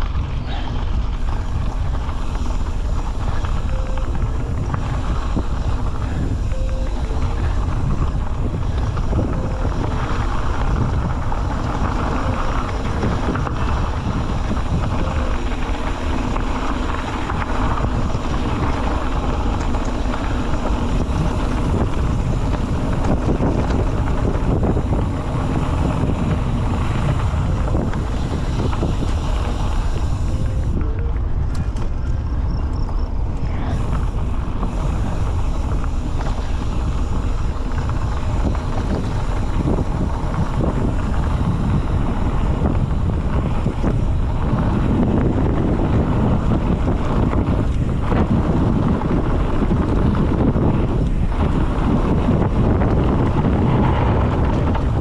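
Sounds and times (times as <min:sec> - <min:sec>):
heavy wind on microphone: 0:00.0 - 0:55.0.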